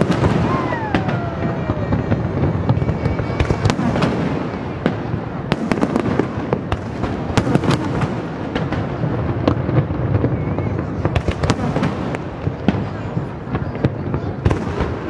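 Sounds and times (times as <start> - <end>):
rumble of firework bursts: 0.0 - 15.0
sharp firework cracks and bangs: 0.0 - 15.0.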